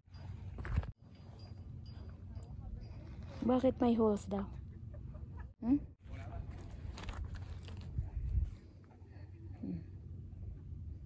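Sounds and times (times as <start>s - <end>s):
steady low rumble: 0.1s - 11.0s.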